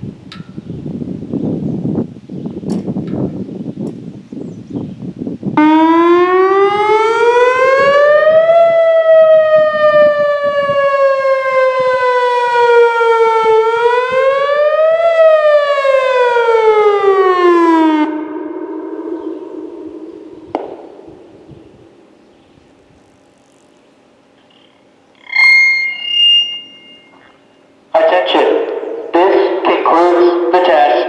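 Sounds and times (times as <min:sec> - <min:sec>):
outdoor warning siren: 0:05.5 - 0:24.3, 0:24.9 - 0:31.0.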